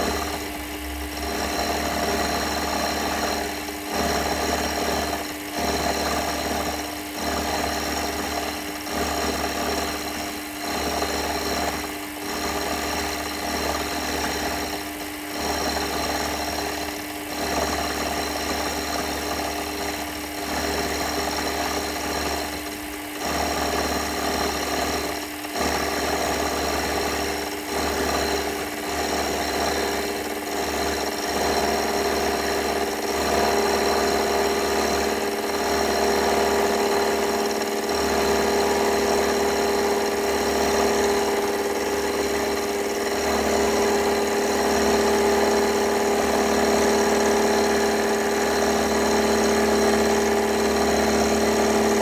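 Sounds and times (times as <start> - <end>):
machine tool motor hum: 0.0 - 52.0.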